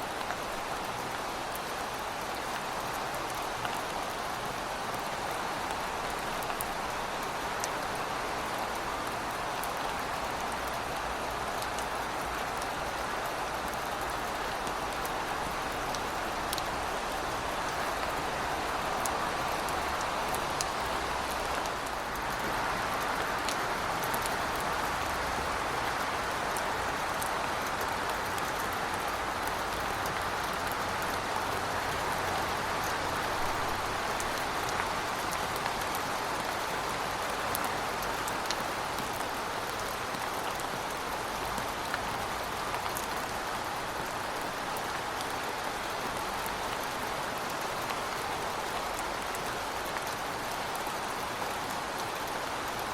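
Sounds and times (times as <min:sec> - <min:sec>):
heavy rain falling: 0:00.1 - 0:52.9.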